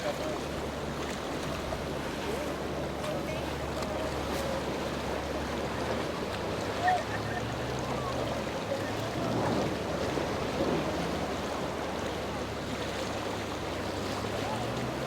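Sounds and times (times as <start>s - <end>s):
boat engine hum: 0.0s - 15.0s
waves washing: 0.0s - 15.0s.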